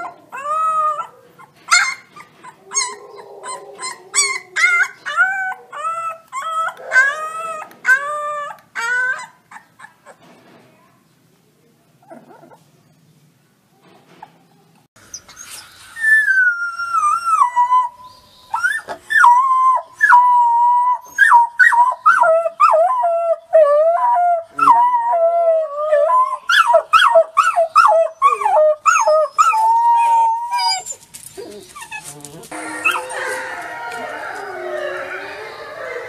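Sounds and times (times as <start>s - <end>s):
wolf pups howling: 0.0s - 9.4s, 16.0s - 36.0s.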